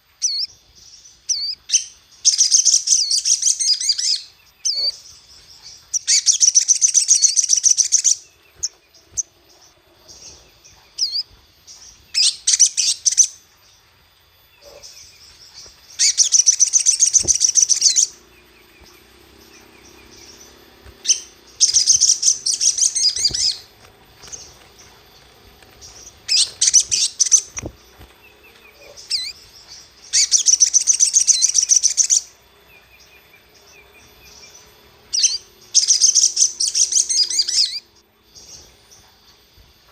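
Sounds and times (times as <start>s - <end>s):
bird chirps: 0.0s - 39.9s
bird song bursts: 0.0s - 39.9s.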